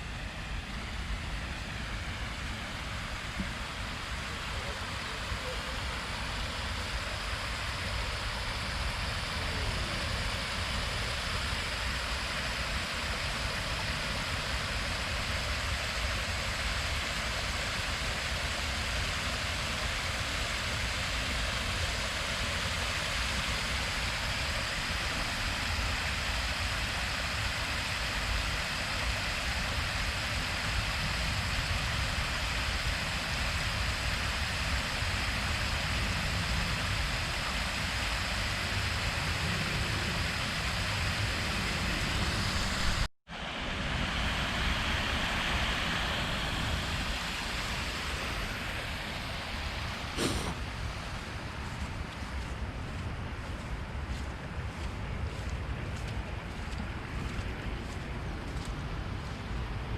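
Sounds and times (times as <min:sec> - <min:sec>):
rushing wet weather noise: 0:00.0 - 0:59.9.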